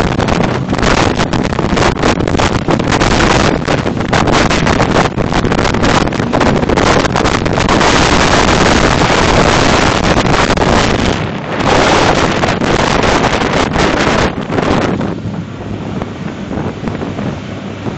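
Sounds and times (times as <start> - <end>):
motorboat running at speed: 0.0 - 17.9
wind buffeting microphone: 0.0 - 17.9.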